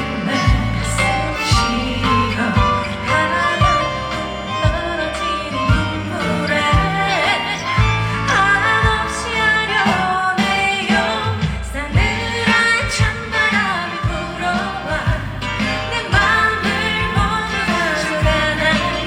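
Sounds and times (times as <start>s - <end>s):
band accompaniment: 0.0s - 19.0s
bass line: 0.0s - 19.0s
drum beats: 0.0s - 19.0s
woman singing: 0.0s - 19.0s.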